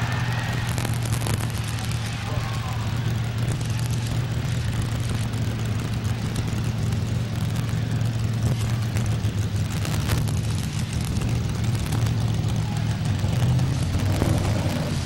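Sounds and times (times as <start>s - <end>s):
truck engine idling low: 0.0s - 15.0s.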